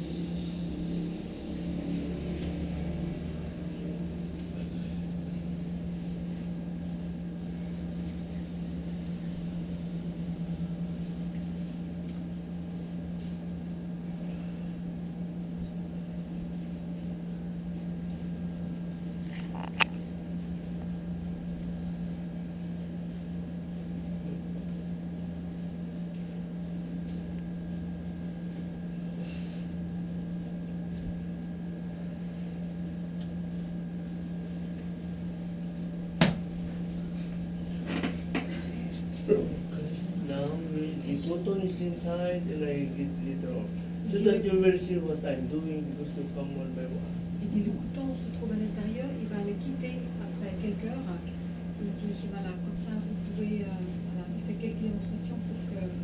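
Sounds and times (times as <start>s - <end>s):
air conditioner humming: 0.0s - 56.0s.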